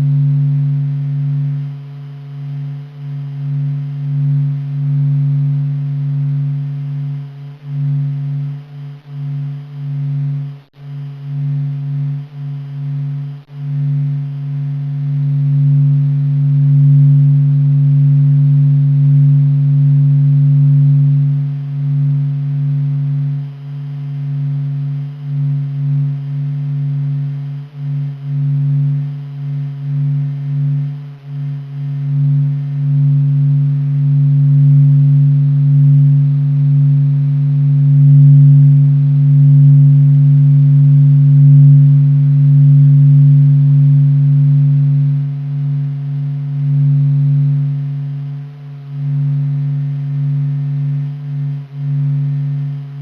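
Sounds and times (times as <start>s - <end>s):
faint higher tone: 0.0s - 53.0s
low steady hum: 0.0s - 53.0s.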